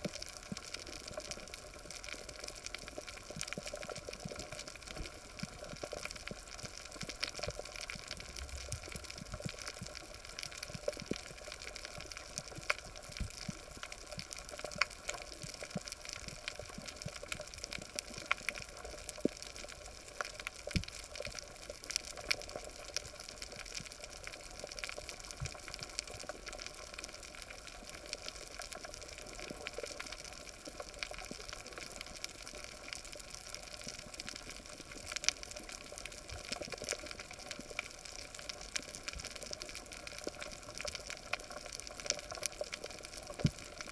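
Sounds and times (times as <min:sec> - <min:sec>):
sharp clicks and crackles: 0:00.0 - 0:43.9.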